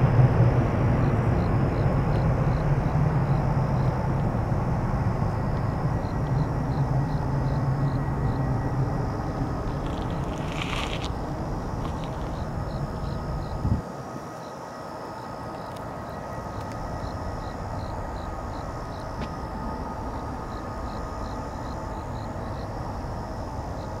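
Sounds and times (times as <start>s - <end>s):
distant jet engine rumble: 0.0s - 24.0s.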